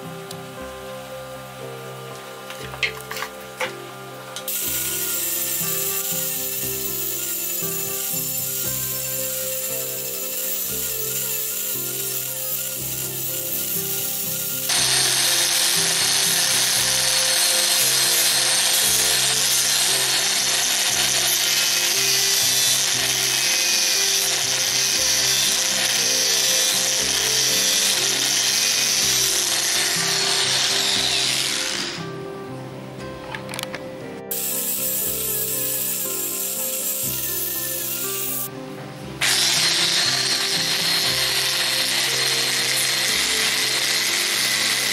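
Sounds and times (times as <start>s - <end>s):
background music: 0.0s - 44.9s
rotary tool sanding wood: 4.5s - 32.0s, 34.3s - 38.5s, 39.2s - 44.9s.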